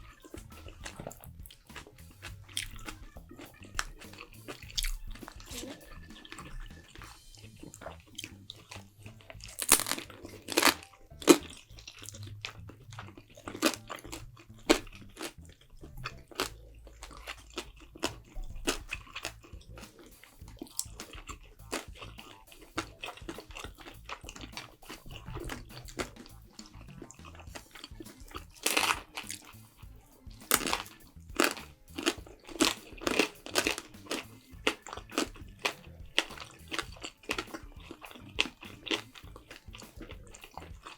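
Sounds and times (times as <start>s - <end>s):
chewing with wet mouth clicks: 0.0s - 40.9s.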